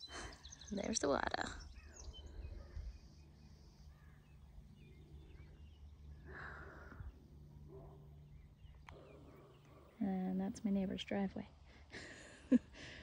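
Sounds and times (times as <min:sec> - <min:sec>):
faint songbird chirps: 0:00.0 - 0:11.4.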